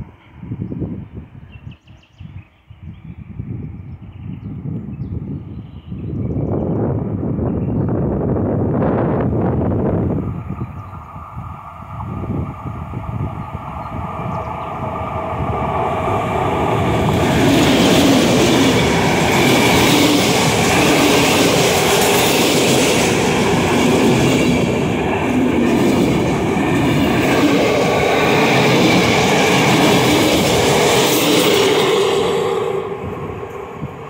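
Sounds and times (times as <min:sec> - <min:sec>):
train passing close by: 0:00.0 - 0:02.0, 0:03.2 - 0:34.0
wheels rumbling on rails: 0:06.2 - 0:34.0.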